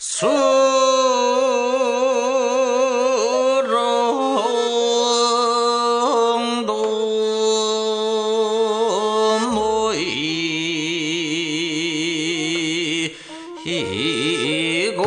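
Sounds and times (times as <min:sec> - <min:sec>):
man singing with wavering vibrato: 0:00.0 - 0:15.0.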